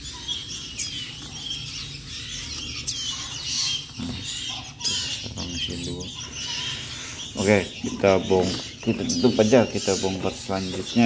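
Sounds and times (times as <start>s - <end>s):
nestlings chirping: 0.0s - 11.0s.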